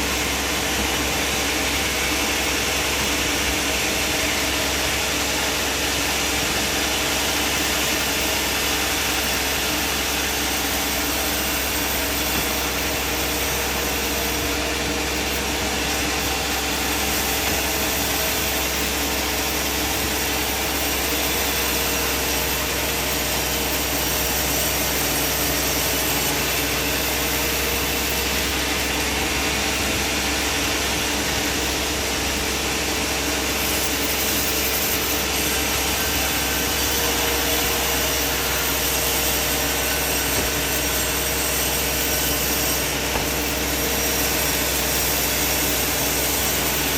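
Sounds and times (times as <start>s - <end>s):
bandsaw sawmill drone: 0.0s - 46.9s.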